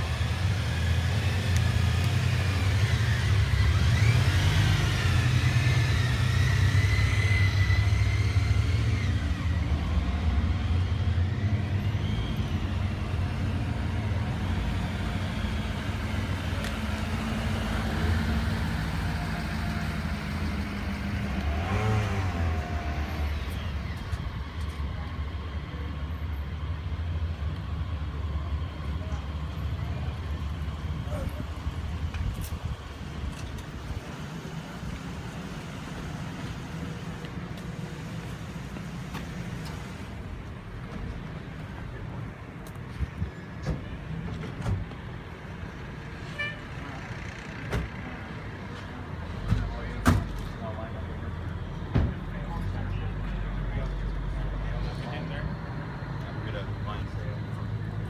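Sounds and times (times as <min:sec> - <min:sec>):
engine rumbling: 0:00.0 - 0:58.0.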